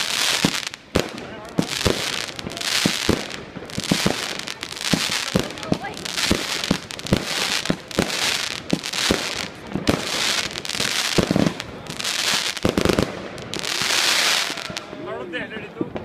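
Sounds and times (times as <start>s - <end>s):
firework bangs: 0.0s - 15.0s
firework crackling: 0.0s - 16.0s.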